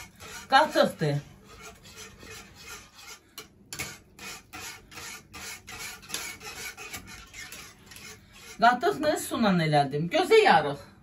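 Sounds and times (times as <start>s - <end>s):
wire whisk swishing yogurt: 0.0s - 9.2s.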